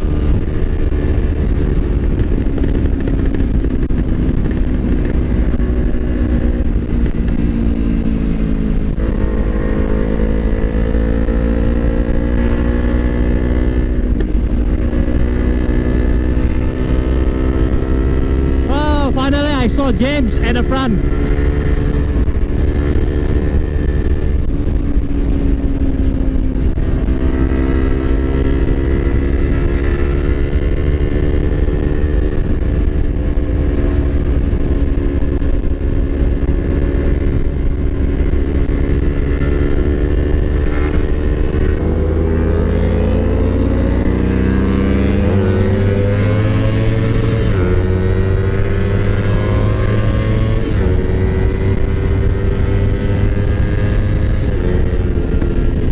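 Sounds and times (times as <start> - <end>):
motorcycle engine running: 0.0 - 55.9
wind noise on microphone: 0.0 - 55.9.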